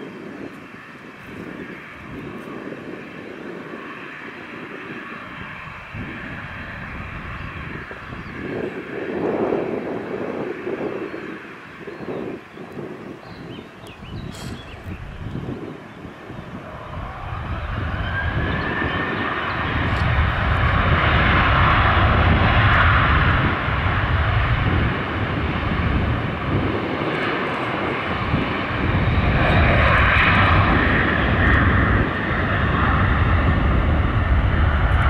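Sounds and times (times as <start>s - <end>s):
jet engines roaring at takeoff: 0.0s - 35.0s.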